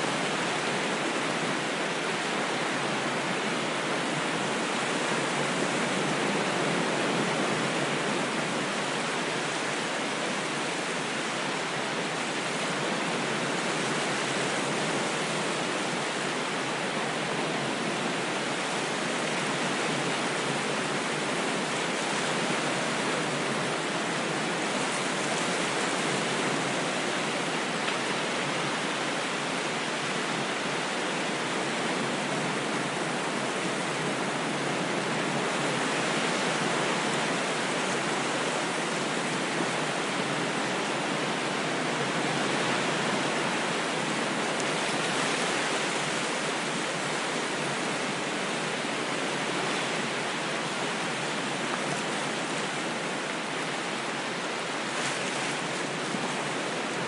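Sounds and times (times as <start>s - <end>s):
ocean waves washing: 0.0s - 57.0s.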